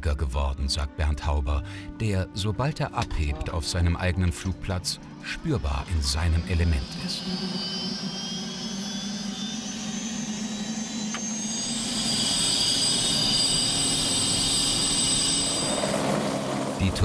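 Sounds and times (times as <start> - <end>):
helicopter turbine whining: 0.0 - 17.0
low hum: 0.0 - 17.0.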